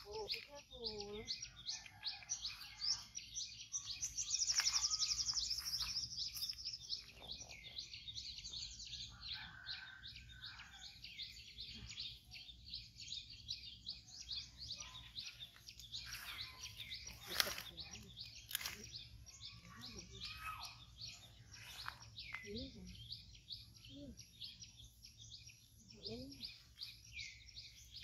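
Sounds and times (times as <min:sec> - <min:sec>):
wild birds chirping: 0:00.0 - 0:28.0.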